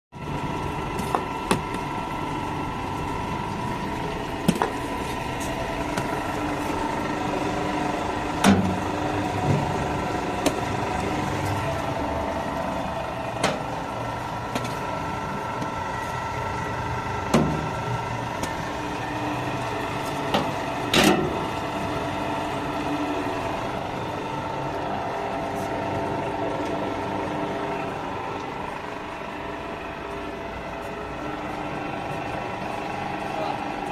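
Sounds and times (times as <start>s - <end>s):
machine motor and gear hum: 0.2s - 33.9s.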